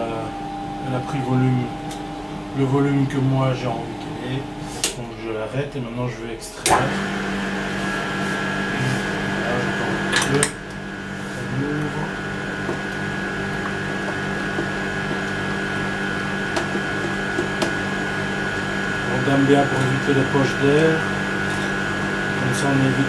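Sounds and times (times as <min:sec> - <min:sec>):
freezer motor hum: 0:00.0 - 0:23.0.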